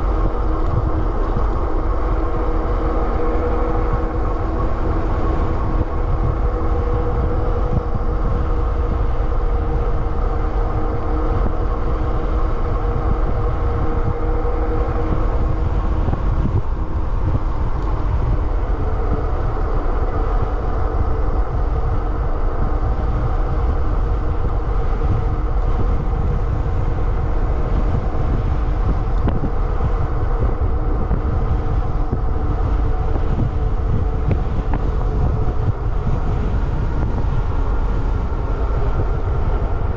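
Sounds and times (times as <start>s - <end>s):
electric motor and tyres whining: 0.0s - 39.9s
wind buffeting microphone: 0.0s - 39.9s.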